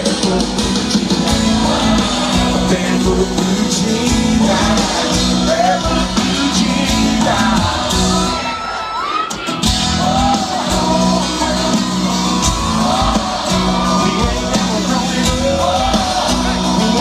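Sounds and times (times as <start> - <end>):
country-rock band playing: 0.0 - 17.0
person singing: 0.0 - 17.0.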